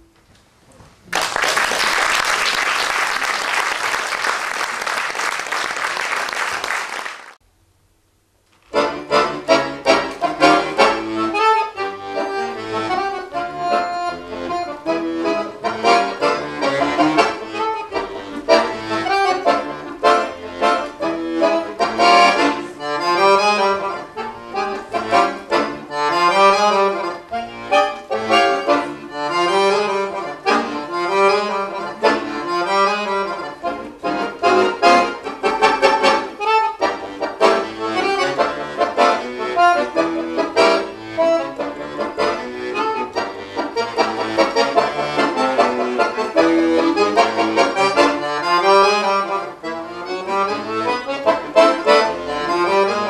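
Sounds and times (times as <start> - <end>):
accordion playing: 8.6 - 53.0.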